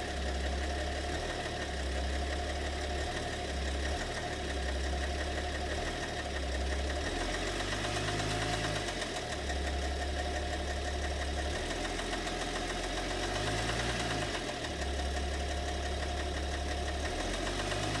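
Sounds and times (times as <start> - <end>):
diesel engine idling: 0.0 - 18.0
engine knocking: 0.0 - 18.0.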